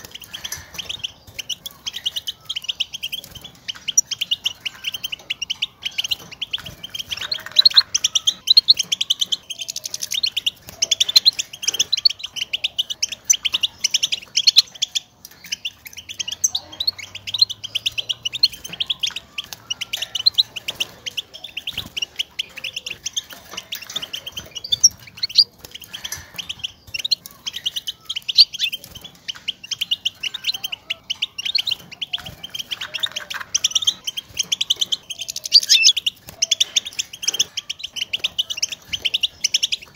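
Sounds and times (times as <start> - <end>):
goldfinch twittering chirps: 0.0 - 39.9.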